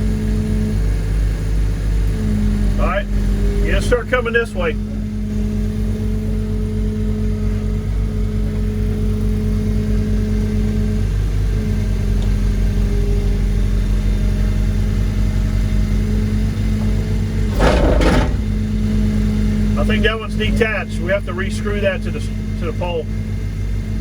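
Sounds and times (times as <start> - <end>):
heavy construction machinery droning: 2.0 - 24.0.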